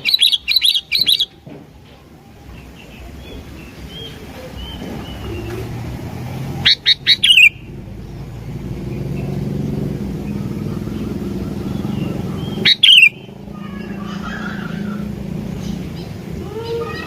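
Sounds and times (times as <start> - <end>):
bulbul calling: 0.0 - 1.5, 2.5 - 17.0
steady low hum: 0.0 - 17.0.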